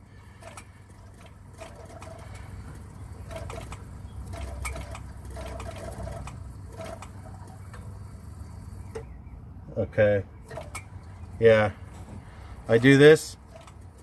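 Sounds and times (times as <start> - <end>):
fuel pump whirring: 0.0 - 14.0.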